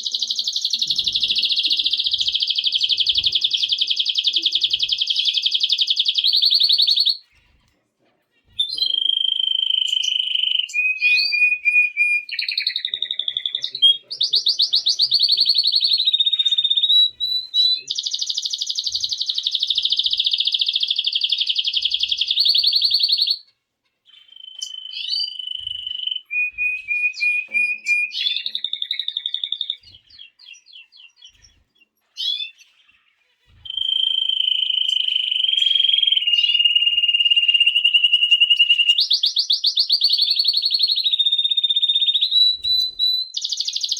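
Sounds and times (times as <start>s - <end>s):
canary singing trills: 0.0s - 7.7s, 8.4s - 43.9s.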